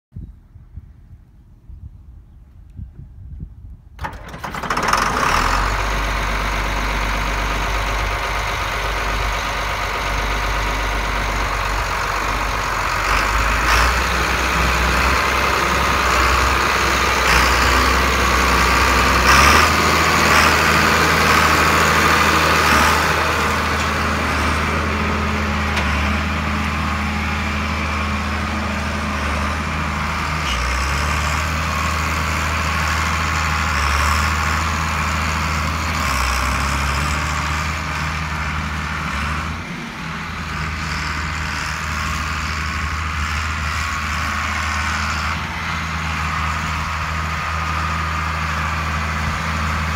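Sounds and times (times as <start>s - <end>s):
tractor diesel engine running: 4.0s - 49.9s.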